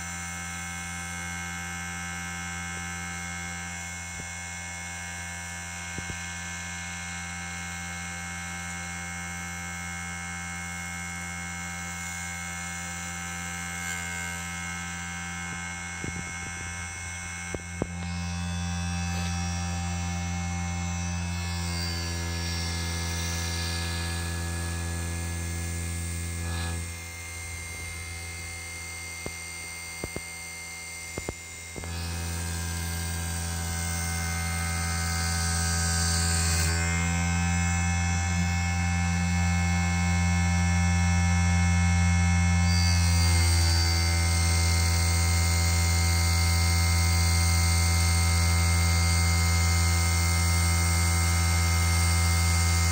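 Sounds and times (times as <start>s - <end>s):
lathe motor humming and whining: 0.0s - 52.9s.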